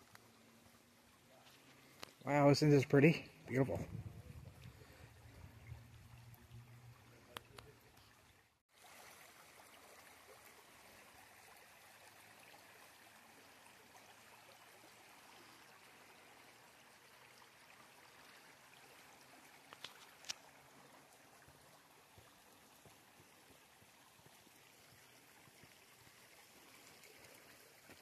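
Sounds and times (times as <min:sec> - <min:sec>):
stream water running: 0:00.0 - 0:28.0.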